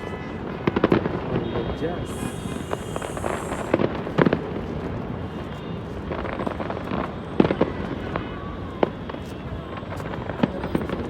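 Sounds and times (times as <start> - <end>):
fireworks bangs and cracks: 0.3 - 11.0.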